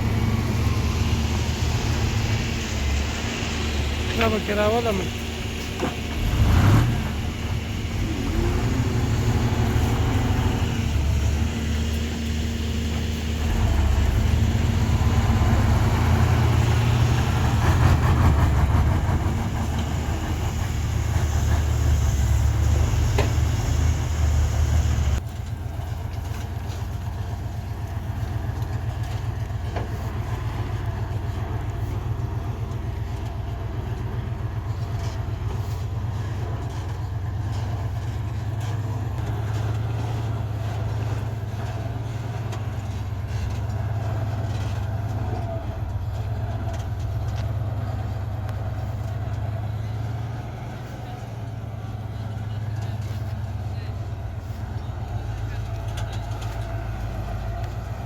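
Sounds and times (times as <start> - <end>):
heavy diesel engine rumbling: 0.0 - 58.0.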